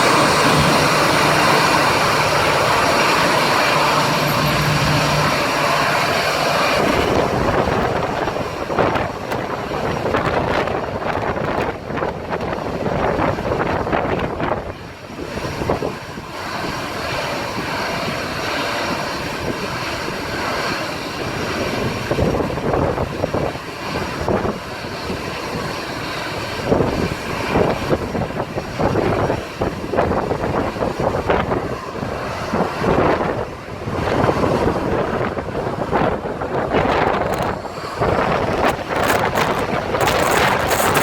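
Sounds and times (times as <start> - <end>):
jet blast buffeting microphone: 0.0 - 24.6, 26.6 - 41.0
jet engines at high thrust: 0.0 - 41.0.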